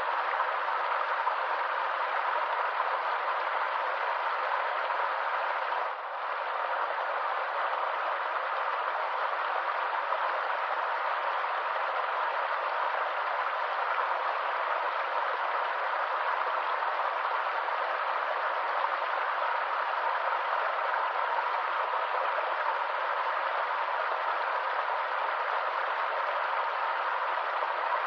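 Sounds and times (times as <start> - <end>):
stream water rushing over rocks: 0.0 - 28.0.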